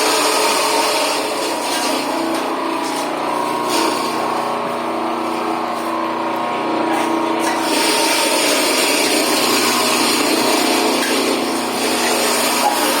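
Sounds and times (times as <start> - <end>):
electric grinder grinding chilies: 0.0 - 13.0.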